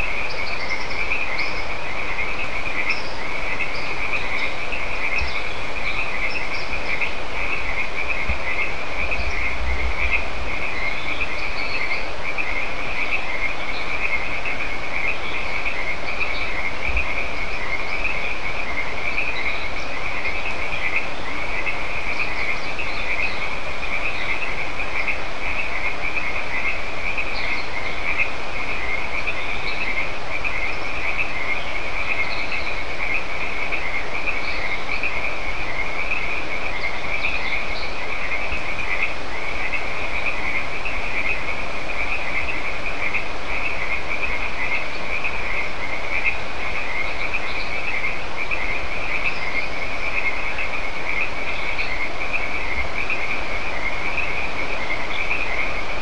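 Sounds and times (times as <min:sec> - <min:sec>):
frogs chorus trilling: 0:00.0 - 0:56.0
higher frog calls: 0:00.0 - 0:56.0.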